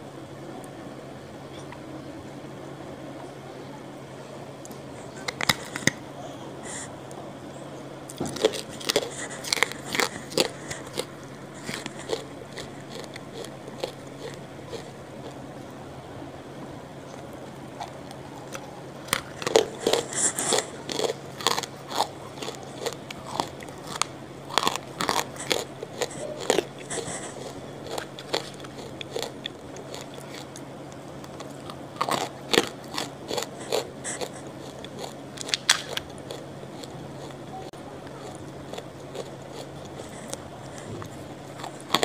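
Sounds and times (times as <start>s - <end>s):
crunching and chewing: 4.6s - 7.2s, 8.1s - 15.9s, 17.0s - 42.0s.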